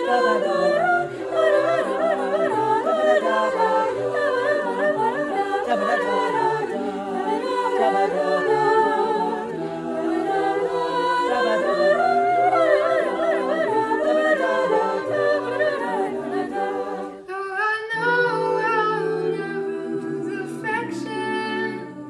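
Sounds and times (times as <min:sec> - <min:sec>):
choir singing a cappella: 0:00.0 - 0:22.0.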